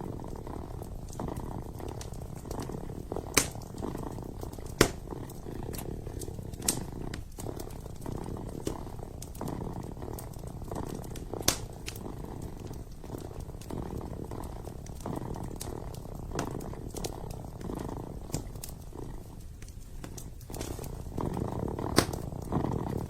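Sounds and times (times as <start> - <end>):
kitten purring: 0.0 - 23.0
wood fire popping: 0.0 - 23.0.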